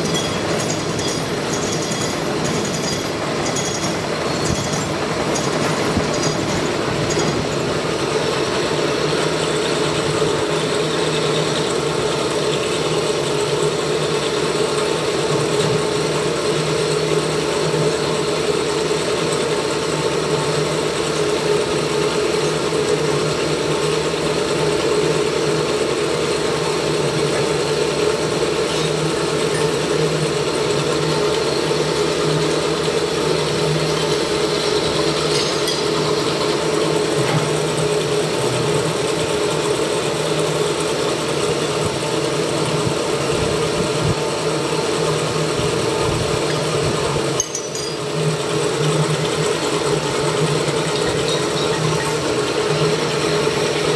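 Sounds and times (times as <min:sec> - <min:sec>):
milling machine drone: 0:00.0 - 0:53.9.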